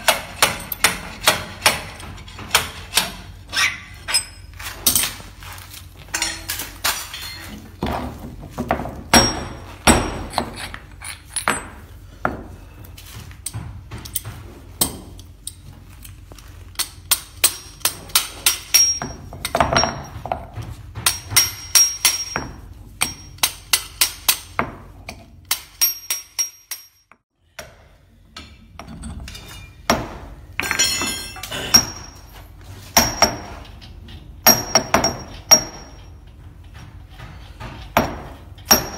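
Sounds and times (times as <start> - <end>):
hammer clanking on steel parts: 0.0 - 5.3, 6.0 - 12.4, 16.8 - 38.9.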